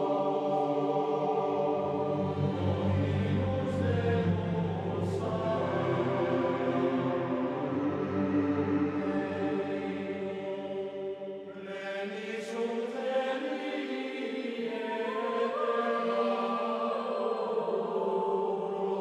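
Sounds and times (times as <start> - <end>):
choir chanting long notes: 0.0 - 19.0.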